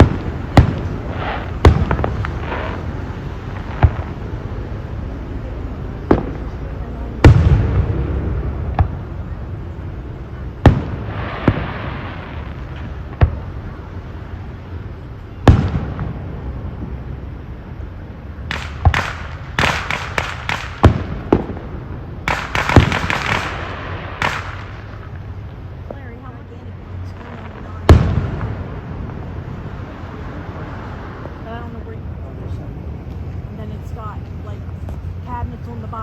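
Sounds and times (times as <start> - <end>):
fireworks crackling: 0.0 - 36.0
fireworks exploding: 0.0 - 36.0.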